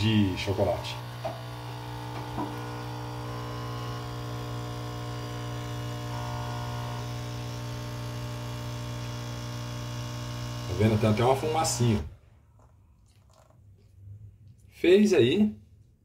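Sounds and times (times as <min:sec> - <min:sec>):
coffee machine pump humming: 0:00.0 - 0:13.5.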